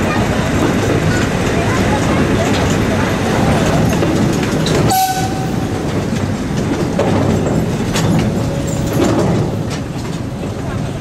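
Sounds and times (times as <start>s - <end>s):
train rumbling along track: 0.0s - 11.0s
wheels clacking over rail joints: 0.0s - 11.0s.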